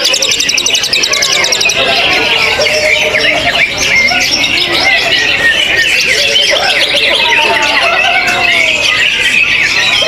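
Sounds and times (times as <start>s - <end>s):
songbirds chirping and trilling: 0.0s - 10.0s.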